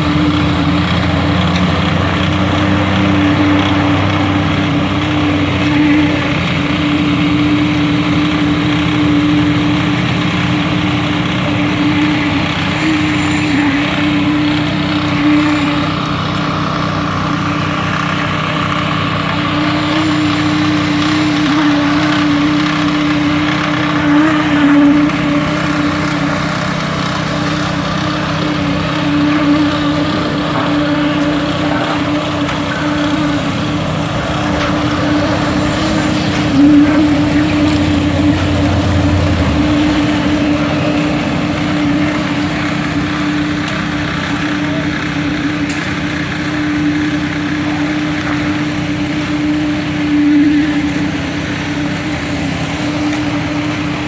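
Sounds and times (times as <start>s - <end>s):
small engine humming: 0.0s - 54.0s.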